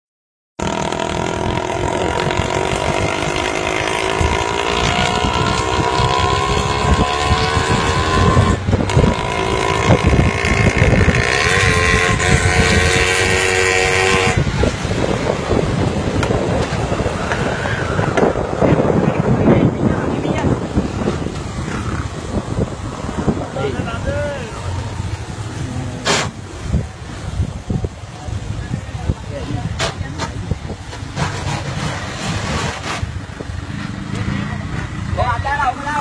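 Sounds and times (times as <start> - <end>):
engine running and accelerating: 0.6 - 27.3, 31.1 - 35.6.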